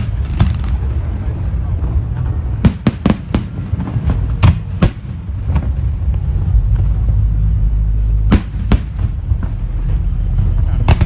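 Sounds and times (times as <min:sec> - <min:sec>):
fireworks bangs: 0:00.0 - 0:11.0
low rumble: 0:00.0 - 0:11.0.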